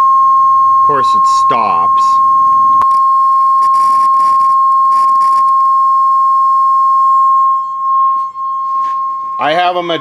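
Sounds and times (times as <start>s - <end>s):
sine test tone: 0.0s - 10.0s.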